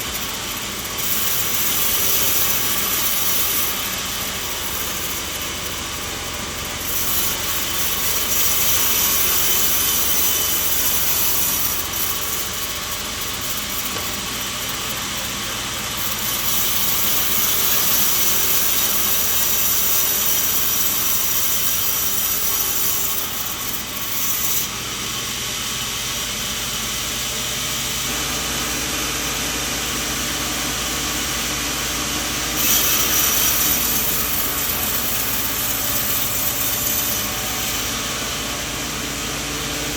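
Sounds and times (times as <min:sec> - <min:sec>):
machine motor humming: 0:00.0 - 0:39.9
saw blade cutting log: 0:00.0 - 0:39.9.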